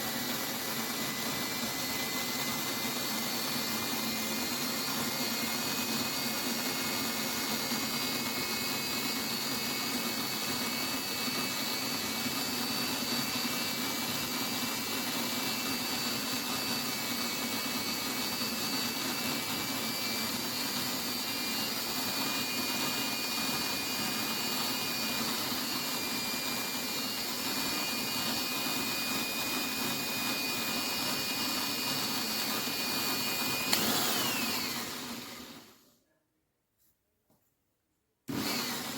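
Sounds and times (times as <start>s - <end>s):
electric drill whining: 0.0s - 35.8s, 38.3s - 38.9s.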